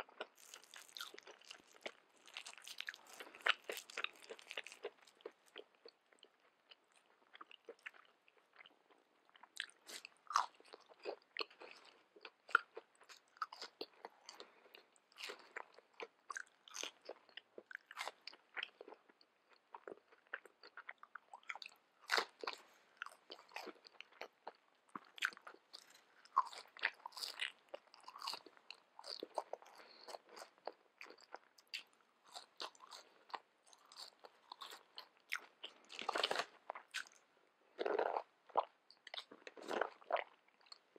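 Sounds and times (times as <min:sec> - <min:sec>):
crunching and chewing fried fish: 0:00.0 - 0:40.9.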